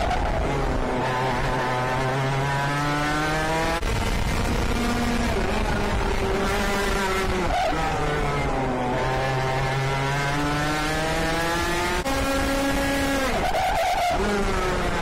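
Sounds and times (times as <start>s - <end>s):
kart two-stroke engine revving: 0.0s - 15.0s.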